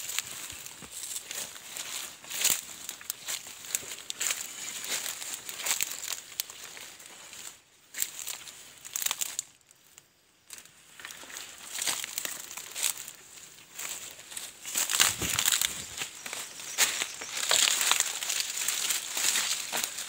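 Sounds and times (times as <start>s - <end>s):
dry leaves crunching underfoot: 0.0s - 9.6s, 10.5s - 20.0s.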